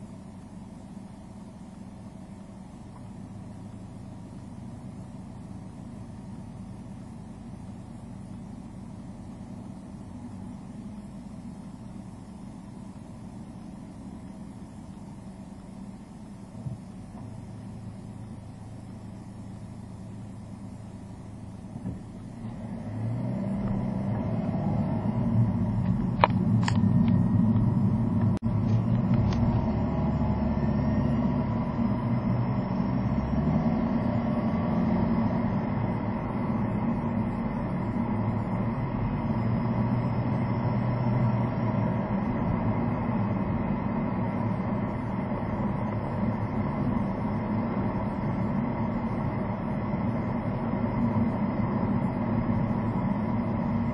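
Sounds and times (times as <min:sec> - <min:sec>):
car engine revving: 0:00.0 - 0:53.9
road noise inside car: 0:00.0 - 0:53.9.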